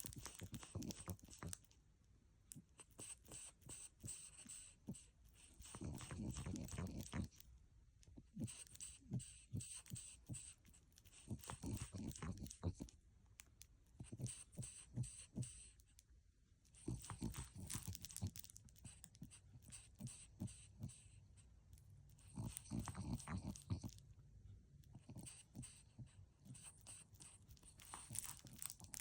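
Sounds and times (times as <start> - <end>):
dog snuffling and mouth sounds: 0.0 - 1.7, 2.5 - 7.4, 8.2 - 13.0, 13.8 - 16.0, 16.7 - 24.1, 24.8 - 29.0.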